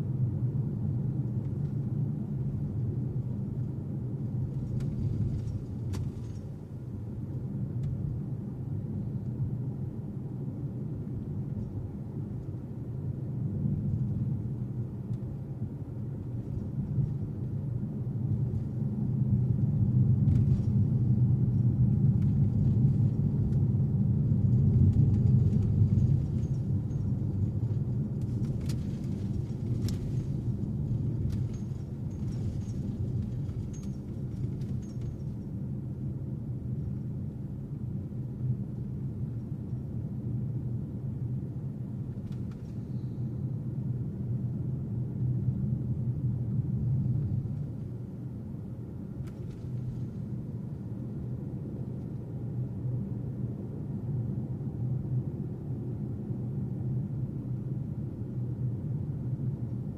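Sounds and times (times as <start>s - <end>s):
car engine and road rumble: 0.0s - 53.8s.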